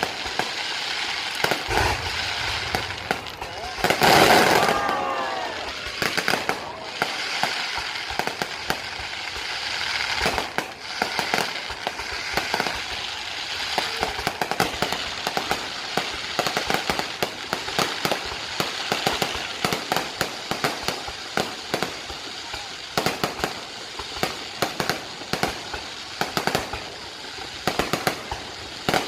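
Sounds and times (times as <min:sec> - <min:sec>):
fireworks bangs and crackles: 0:00.0 - 0:29.0
steady hiss: 0:00.0 - 0:29.0.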